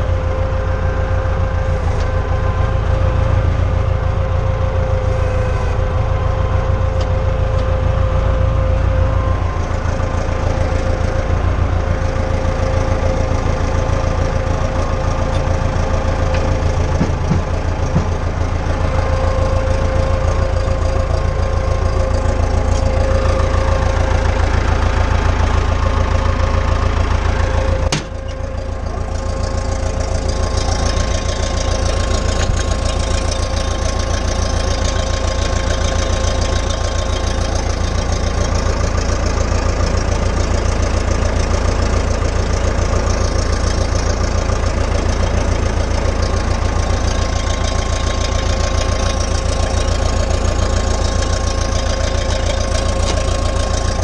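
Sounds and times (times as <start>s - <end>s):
dozer diesel engine running: 0.0s - 54.0s.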